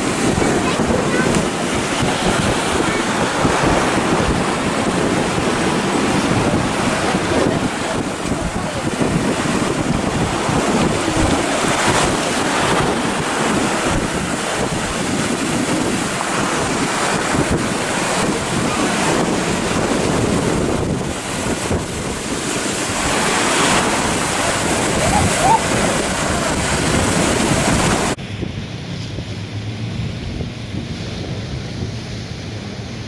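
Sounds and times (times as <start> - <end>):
ocean surf breaking: 0.0 - 33.0
wind buffeting microphone: 0.0 - 33.0.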